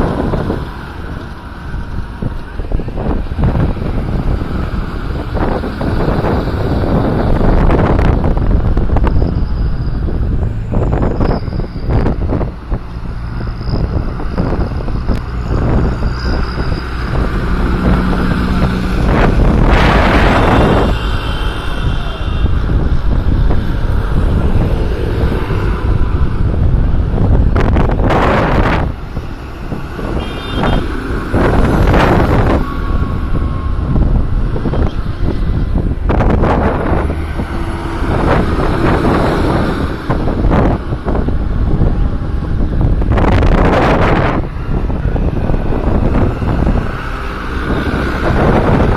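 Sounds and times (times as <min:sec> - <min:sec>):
tractor engines passing: 0:00.0 - 0:48.9
wind buffeting microphone: 0:00.0 - 0:48.9.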